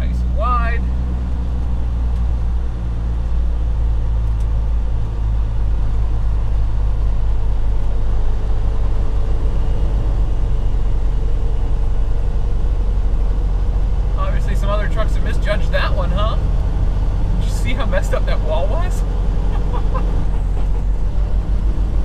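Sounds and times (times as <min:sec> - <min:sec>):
road noise: 0:00.0 - 0:22.0
truck engine drone: 0:00.0 - 0:22.0.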